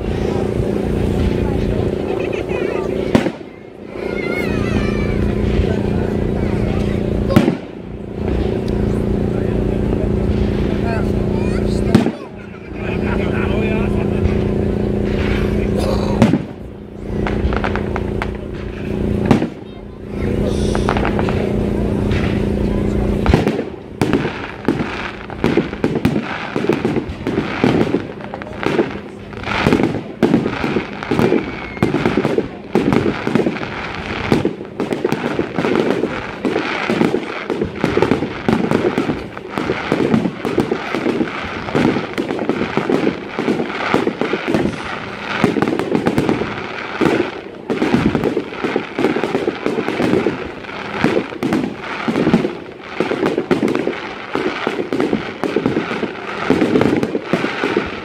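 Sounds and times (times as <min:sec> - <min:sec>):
fireworks bangs: 0:00.0 - 0:58.0
fireworks crackling pops: 0:00.0 - 0:58.0.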